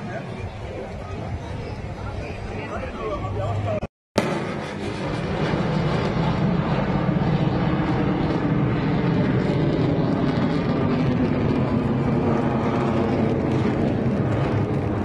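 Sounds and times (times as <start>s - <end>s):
military aircraft flying overhead: 0.0s - 15.0s.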